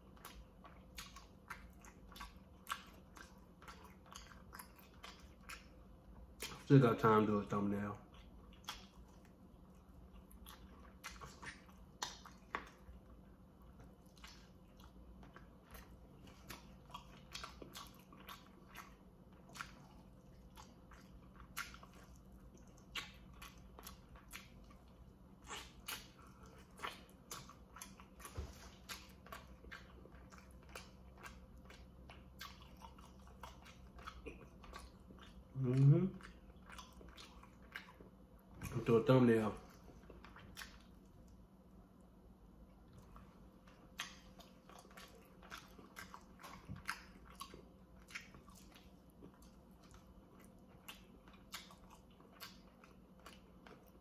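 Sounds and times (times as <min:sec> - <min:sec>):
man chewing chicken: 0:00.0 - 0:54.0.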